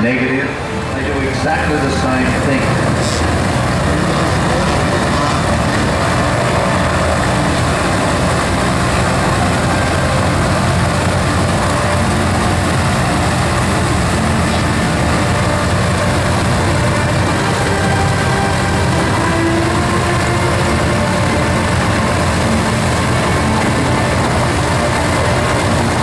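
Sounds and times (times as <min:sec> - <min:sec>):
loud engine drone: 0:00.0 - 0:26.0
noisy hiss: 0:00.0 - 0:26.0.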